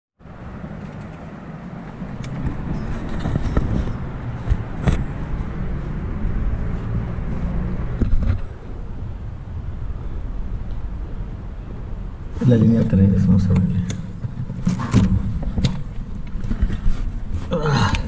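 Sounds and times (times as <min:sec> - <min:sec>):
distant city traffic: 0:00.2 - 0:18.0
wind rumble: 0:00.2 - 0:18.0.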